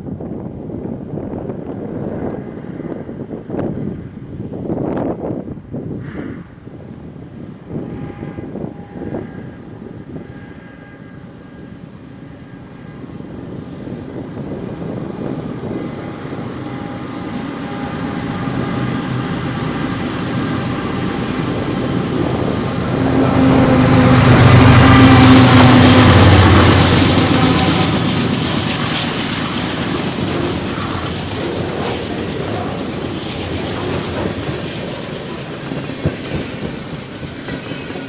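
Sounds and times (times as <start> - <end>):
diesel locomotive engines: 0.0 - 38.0
freight train rumble: 0.0 - 38.0.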